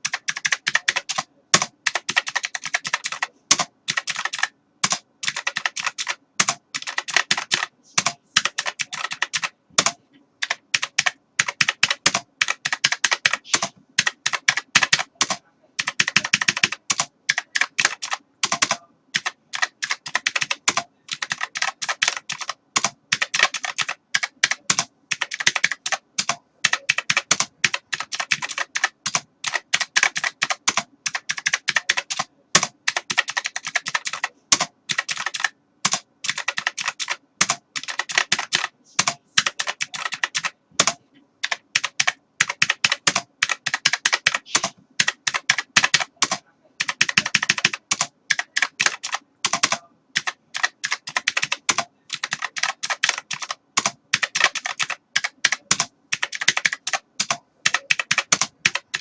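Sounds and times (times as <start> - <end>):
keyboard typing: 0.0 - 59.0.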